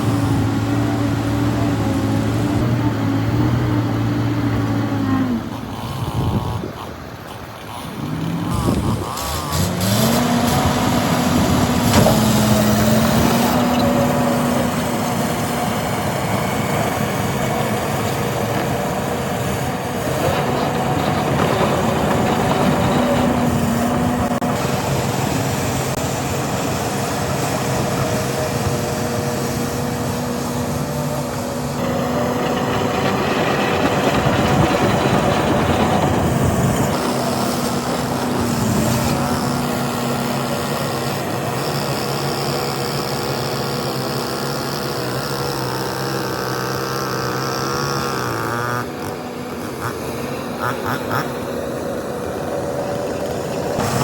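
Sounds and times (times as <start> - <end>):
heavy machine diesel engines: 0.0 - 54.0.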